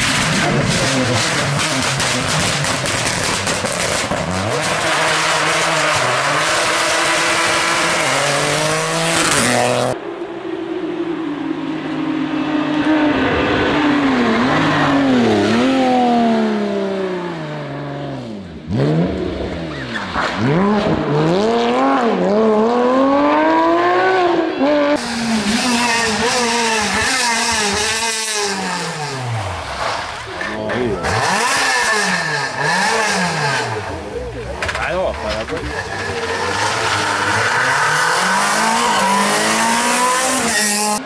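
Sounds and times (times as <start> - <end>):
rally car accelerating: 0.0 - 10.0, 10.7 - 41.0
tyre and road noise: 0.0 - 41.0.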